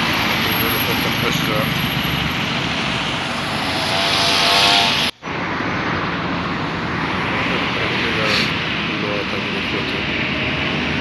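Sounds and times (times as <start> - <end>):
car passing close by: 0.0 - 9.0
steady traffic noise: 0.0 - 11.0.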